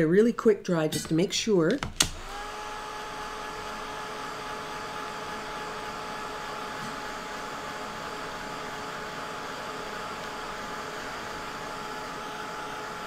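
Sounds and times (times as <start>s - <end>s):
handheld electric dryer blowing: 1.8s - 13.0s.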